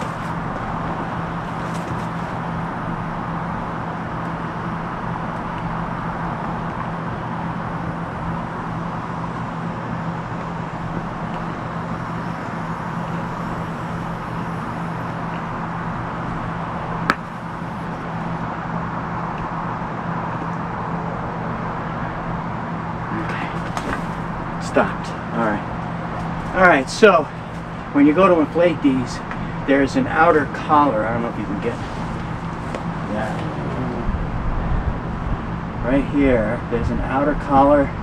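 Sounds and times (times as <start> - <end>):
low hum with rushing noise: 0.0 - 38.0.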